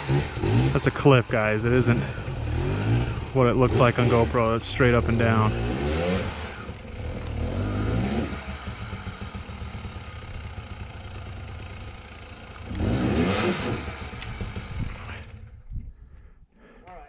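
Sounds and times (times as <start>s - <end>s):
dirt bike engine revving: 0.0s - 15.6s.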